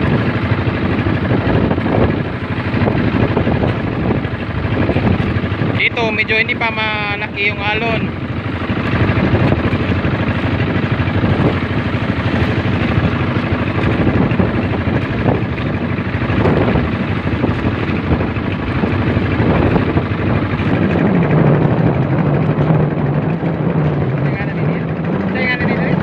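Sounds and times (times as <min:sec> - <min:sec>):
boat engine running: 0:00.0 - 0:26.0
deep steady hum: 0:00.0 - 0:26.0
water rushing past hull: 0:00.0 - 0:26.0.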